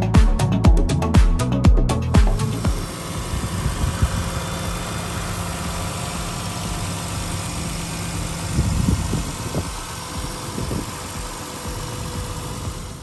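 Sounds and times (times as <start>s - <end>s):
car engine idling: 0.0s - 13.0s
low thumps: 0.0s - 13.0s.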